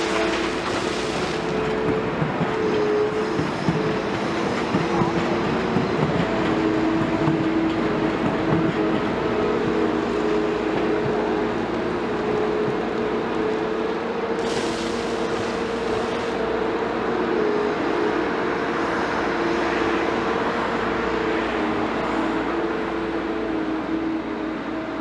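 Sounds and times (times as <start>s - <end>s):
excavator engine and hydraulic whine: 0.0s - 25.0s.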